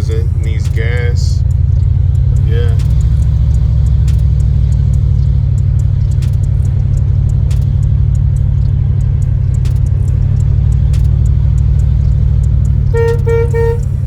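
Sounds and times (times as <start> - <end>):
car engine rumbling: 0.0 - 14.0
faint clicks: 0.0 - 14.0.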